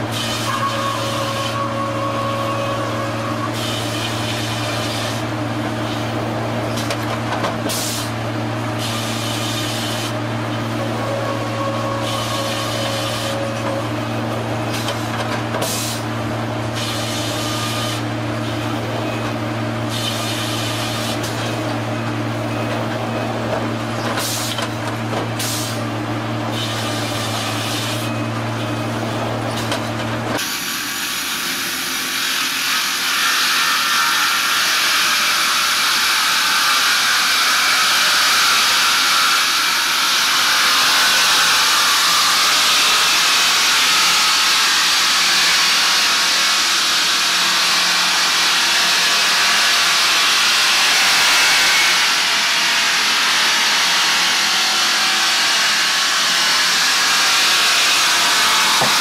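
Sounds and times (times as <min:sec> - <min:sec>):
circular saw cutting boards: 0:00.0 - 0:21.9, 0:29.5 - 0:59.0
sawmill machinery humming: 0:00.0 - 0:59.0.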